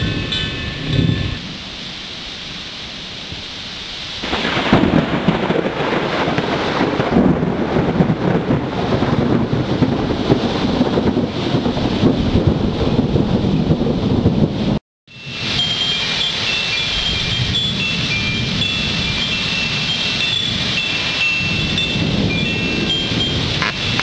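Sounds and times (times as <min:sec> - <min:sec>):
thunder rolling: 0:00.0 - 0:01.8, 0:04.2 - 0:16.3, 0:16.9 - 0:24.0
rain: 0:00.0 - 0:24.0.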